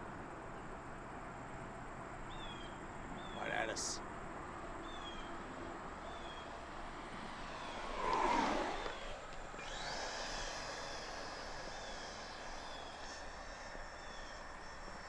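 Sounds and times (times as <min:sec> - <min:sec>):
rc jet fan whining past: 0:00.0 - 0:15.0.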